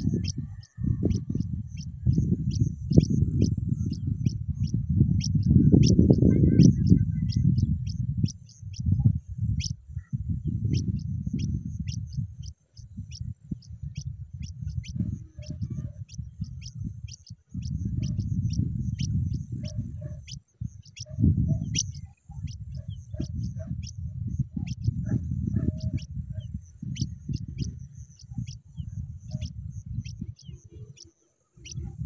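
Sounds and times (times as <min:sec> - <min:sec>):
nestlings begging chirps: 0:00.0 - 0:09.8, 0:10.4 - 0:32.0
low rumble in gusts: 0:00.0 - 0:32.0.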